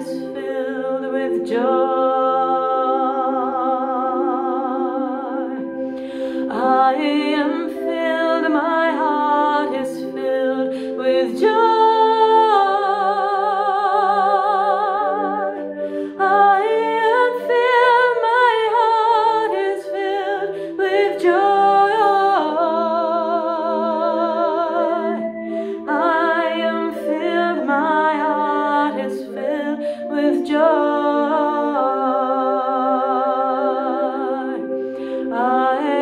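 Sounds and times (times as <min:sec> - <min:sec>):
woman singing with vibrato: 0:00.0 - 0:36.0.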